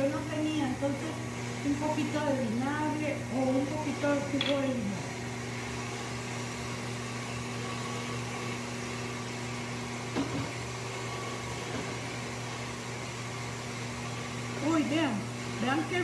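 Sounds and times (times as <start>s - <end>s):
microwave oven running: 0.0s - 16.0s
stand mixer motor hum: 0.0s - 16.0s.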